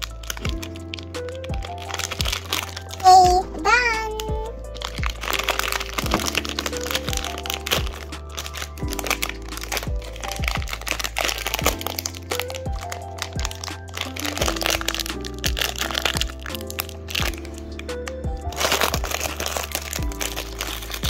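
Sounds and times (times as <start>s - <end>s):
background music with steady beat: 0.0s - 21.0s
plastic wrapper crinkling: 0.0s - 21.0s.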